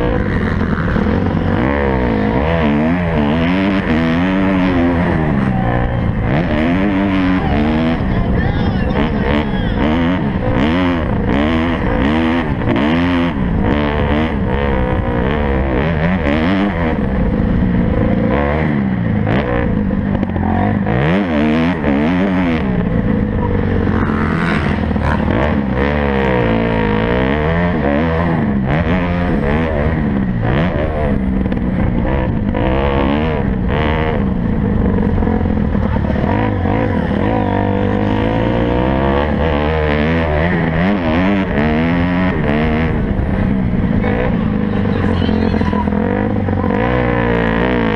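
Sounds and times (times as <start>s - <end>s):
motocross bikes revving: 0.0s - 47.9s.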